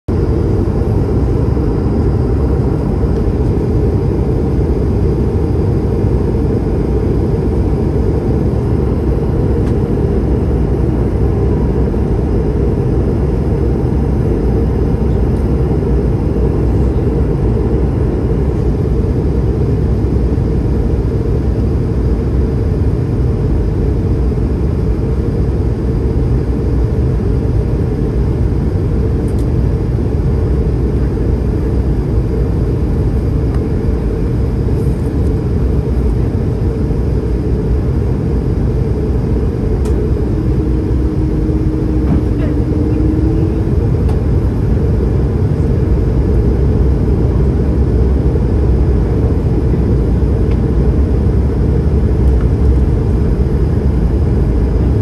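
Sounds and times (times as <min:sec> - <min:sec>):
airflow over aircraft fuselage: 0:00.1 - 0:55.0
jet engines running: 0:00.1 - 0:55.0.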